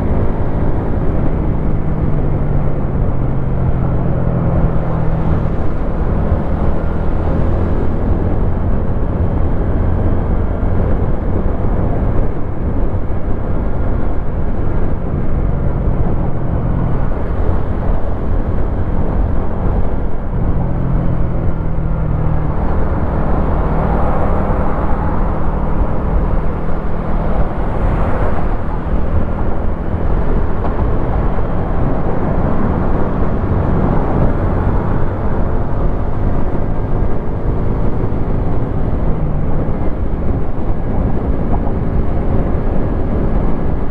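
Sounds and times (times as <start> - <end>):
wind noise on microphone: 0.0 - 43.9.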